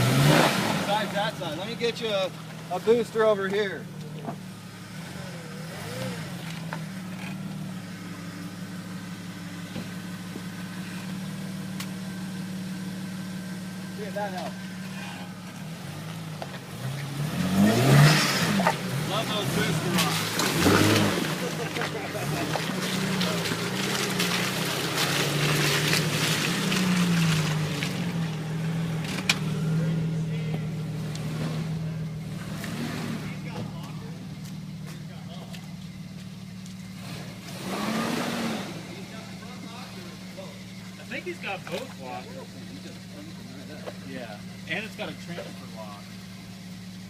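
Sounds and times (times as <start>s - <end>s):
vehicle engine idling: 0.0s - 47.0s.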